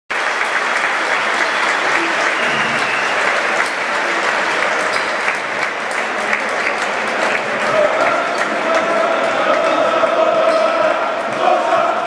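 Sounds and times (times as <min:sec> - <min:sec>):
crowd applauding: 0:00.1 - 0:12.0.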